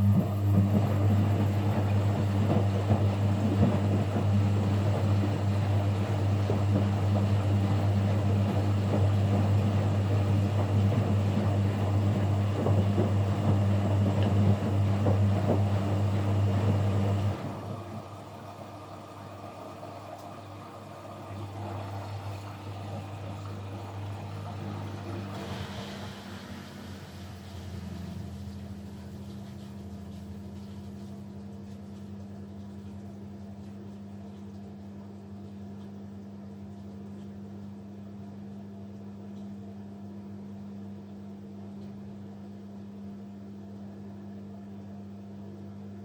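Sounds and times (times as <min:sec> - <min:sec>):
washing machine humming: 0:00.0 - 0:46.0.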